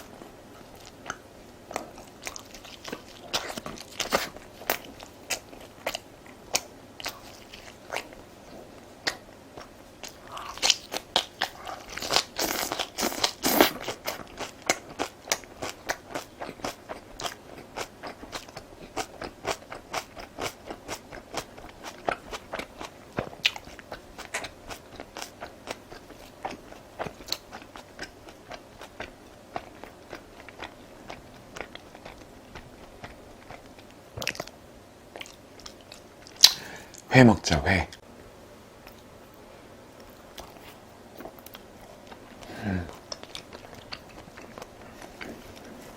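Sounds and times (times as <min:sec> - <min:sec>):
person chewing crunchy food: 0:00.0 - 0:37.0, 0:40.0 - 0:45.9.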